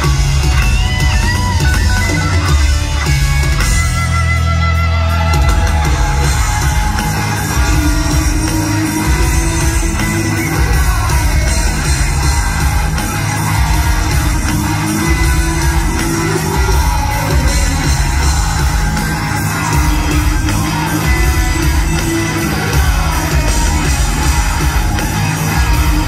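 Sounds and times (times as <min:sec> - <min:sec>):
heavy rock band playing loudly: 0:00.0 - 0:26.0.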